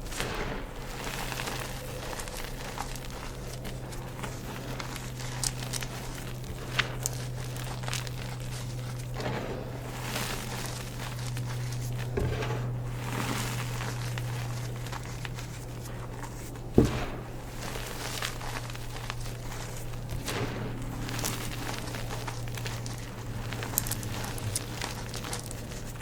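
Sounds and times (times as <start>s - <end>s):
chalk crushing and crunching: 0.0s - 26.0s.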